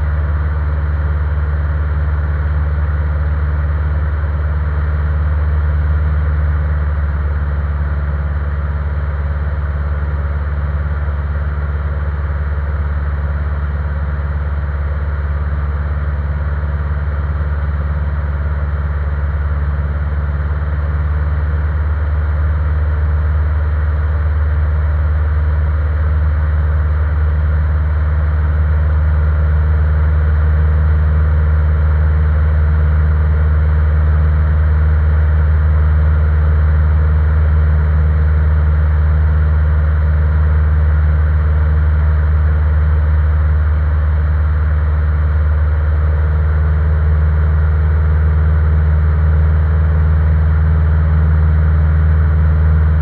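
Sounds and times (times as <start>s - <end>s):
light aircraft engine droning: 0.0s - 53.0s.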